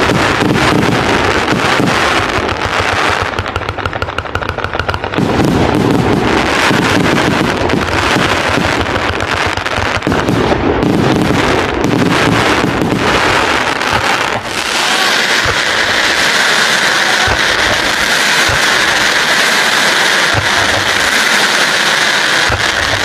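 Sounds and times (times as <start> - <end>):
firework cake firing: 0.0 - 23.0
firework crackles: 0.0 - 23.0.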